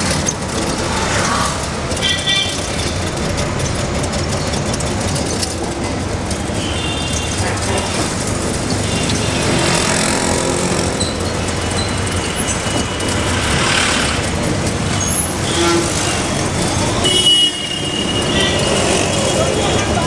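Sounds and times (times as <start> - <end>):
road and street noise: 0.0 - 20.0.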